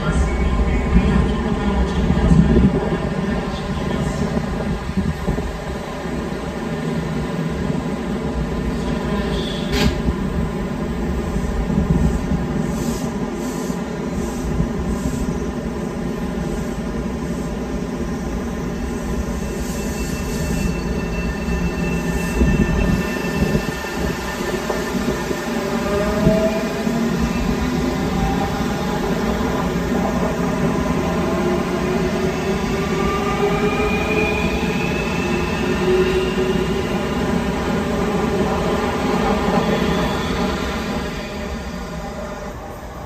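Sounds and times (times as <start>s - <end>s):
rumble of train cars: 0.0s - 43.0s.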